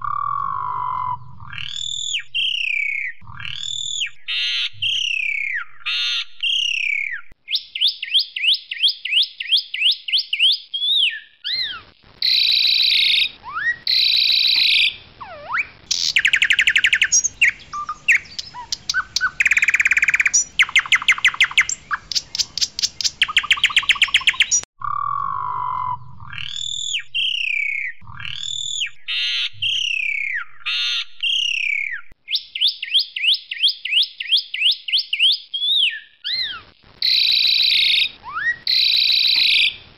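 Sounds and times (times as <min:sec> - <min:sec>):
starling singing: 0:00.0 - 0:39.8.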